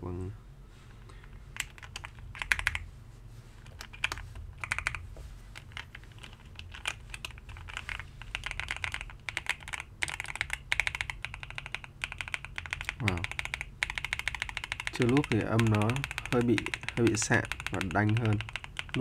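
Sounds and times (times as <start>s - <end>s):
mechanical keyboard typing: 1.6s - 2.8s, 3.6s - 5.0s, 5.6s - 19.0s.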